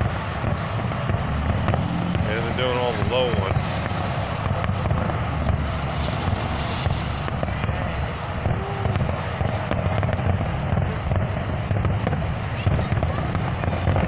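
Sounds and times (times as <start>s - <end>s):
distant fireworks booming: 0.0s - 14.0s.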